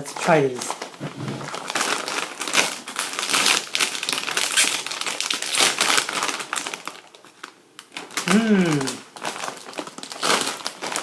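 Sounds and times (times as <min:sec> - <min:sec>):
plastic chip bag crinkling: 0:00.0 - 0:11.0.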